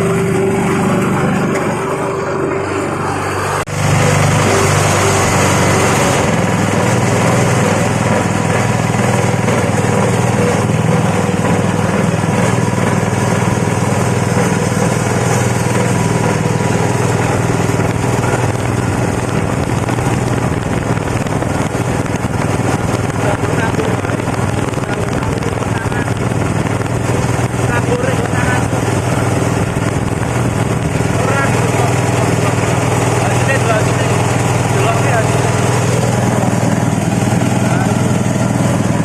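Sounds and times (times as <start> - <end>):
chopping machine motor drone: 0.0 - 39.0.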